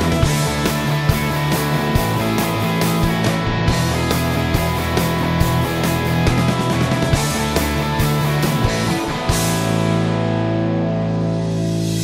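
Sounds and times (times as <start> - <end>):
rock music with guitar: 0.0 - 12.0.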